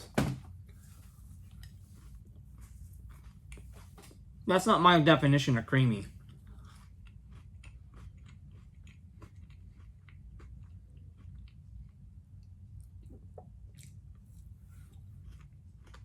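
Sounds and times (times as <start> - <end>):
person chewing crunchy bar: 0.6 - 4.3, 6.0 - 16.0.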